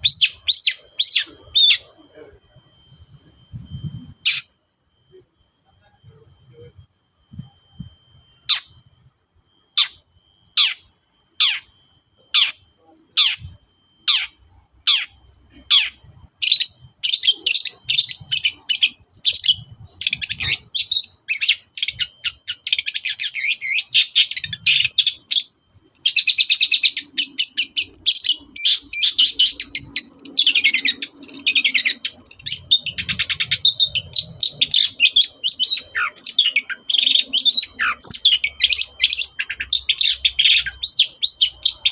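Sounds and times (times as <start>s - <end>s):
bird chattering song: 0.0s - 41.9s
bird sharp downward calls: 0.0s - 41.9s.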